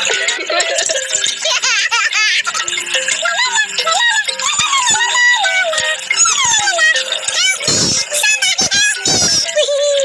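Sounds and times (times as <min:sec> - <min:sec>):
synthesized voice-like melody: 0:00.0 - 0:10.0.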